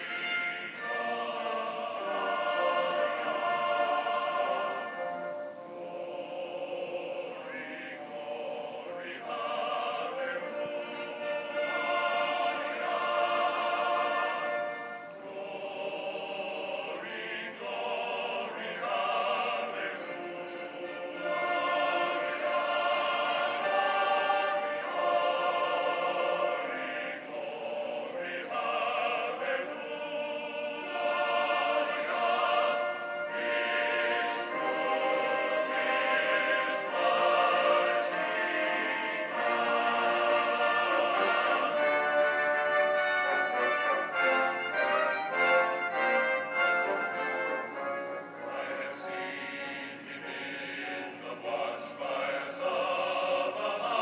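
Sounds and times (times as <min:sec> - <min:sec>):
choir singing operatically: 0:00.0 - 0:54.0.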